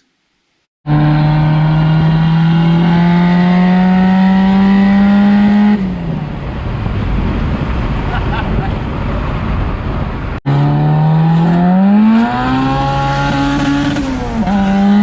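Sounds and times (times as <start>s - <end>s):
car engine accelerating: 0.9s - 15.0s.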